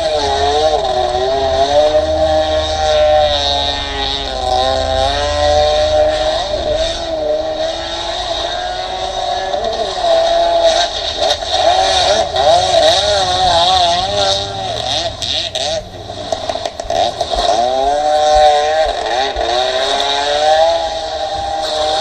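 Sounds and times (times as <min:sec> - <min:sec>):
jet ski engine running hard: 0:00.0 - 0:22.0.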